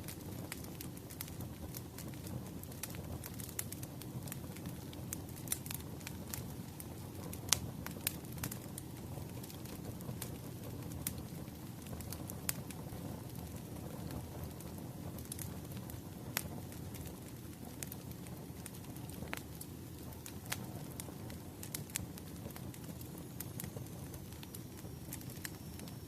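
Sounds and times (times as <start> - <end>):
burning logs crackling and popping: 0.0 - 26.0
wood fire low rumble: 0.0 - 26.0.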